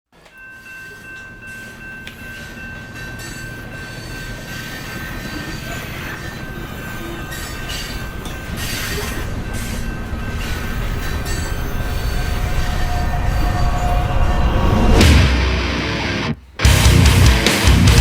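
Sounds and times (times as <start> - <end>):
train wheel squeal: 0.2 - 15.2
train rumble: 0.2 - 18.0.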